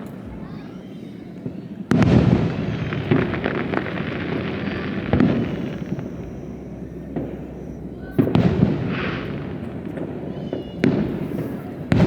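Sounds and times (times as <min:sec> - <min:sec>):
crackling firework pops: 0:01.3 - 0:12.0
firework shell burst: 0:01.9 - 0:12.0.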